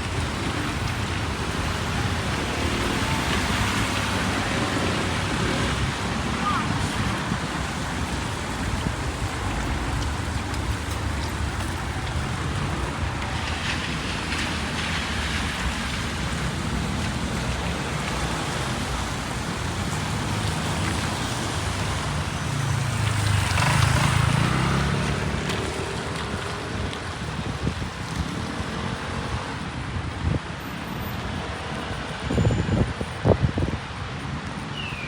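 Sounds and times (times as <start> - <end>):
vehicle engine passing close: 0.0 - 29.4
steady rain: 0.0 - 34.8
road traffic: 0.0 - 35.0.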